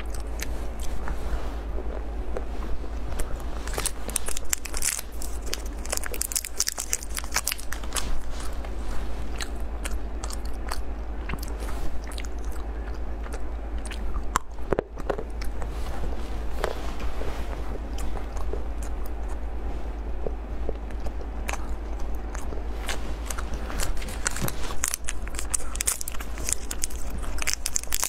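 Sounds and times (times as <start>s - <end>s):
crunching and chewing chocolate: 0.0s - 28.0s
steady low hum: 0.0s - 28.0s.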